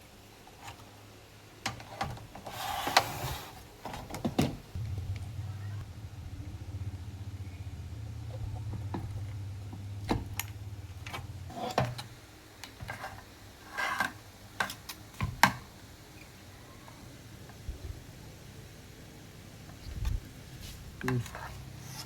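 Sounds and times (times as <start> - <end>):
low mains hum: 0.0 - 22.0.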